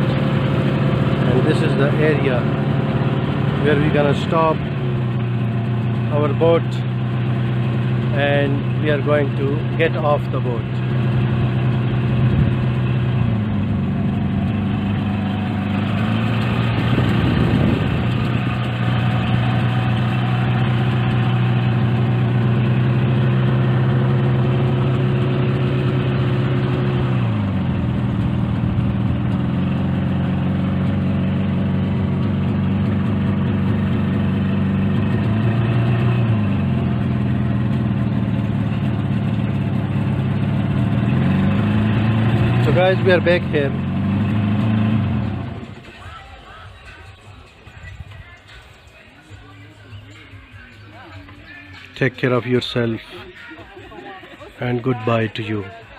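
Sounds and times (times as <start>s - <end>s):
motorboat engine running: 0.0s - 47.0s.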